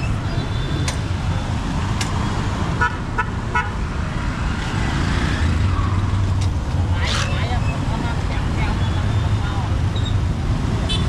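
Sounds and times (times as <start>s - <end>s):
motorbikes and cars passing: 0.0s - 11.0s.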